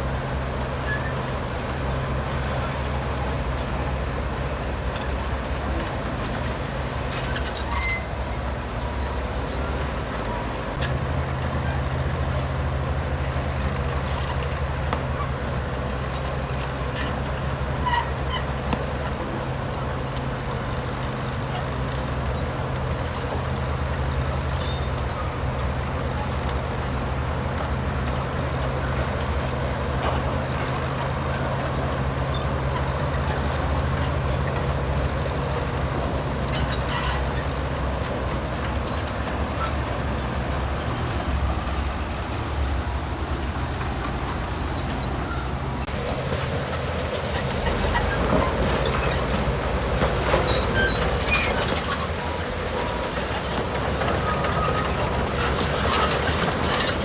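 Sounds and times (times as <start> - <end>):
diesel engine of heavy machinery: 0.0 - 57.0.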